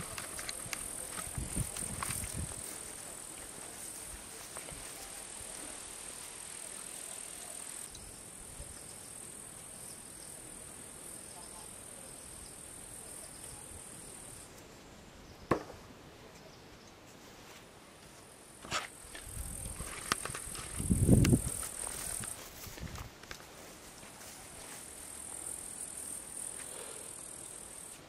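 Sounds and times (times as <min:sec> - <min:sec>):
insects chirring: 0:00.0 - 0:15.4, 0:18.3 - 0:28.0.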